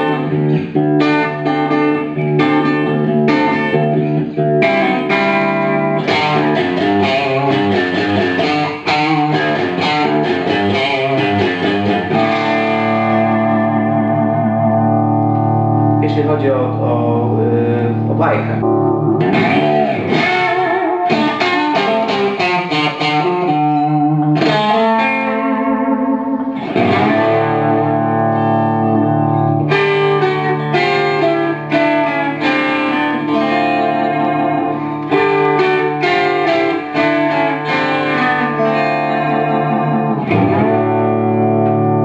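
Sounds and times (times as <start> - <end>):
electric guitar through amplifier: 0.0 - 42.0.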